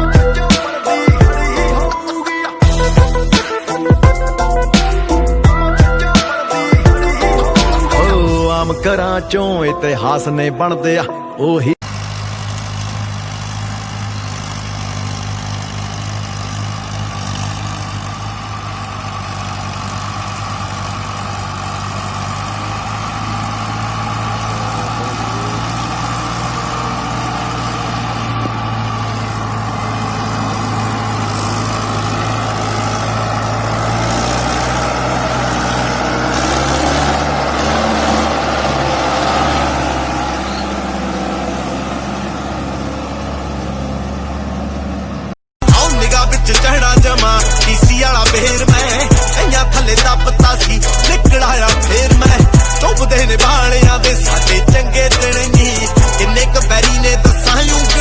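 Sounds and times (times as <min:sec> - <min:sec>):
tractor engine running: 0:00.0 - 0:10.2, 0:11.8 - 0:58.0.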